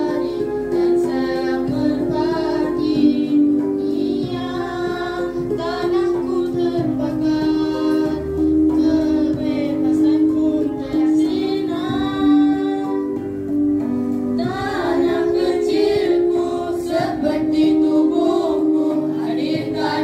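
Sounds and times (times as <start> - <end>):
child singing into microphone: 0.0 - 13.3, 14.4 - 20.0
backing music: 0.0 - 20.0.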